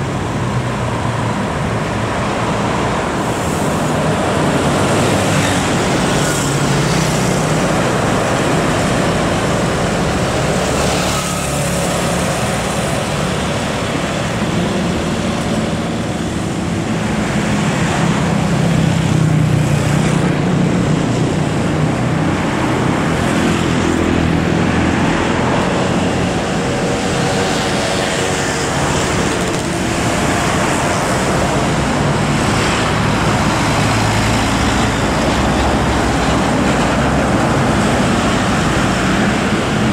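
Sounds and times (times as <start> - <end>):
city road traffic: 0.0 - 39.9.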